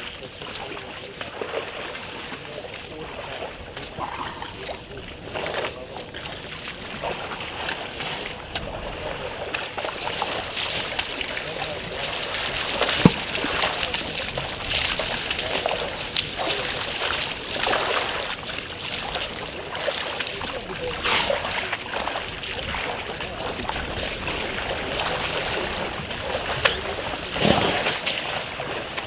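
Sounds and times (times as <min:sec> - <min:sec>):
elephants splashing water: 0:00.0 - 0:29.0.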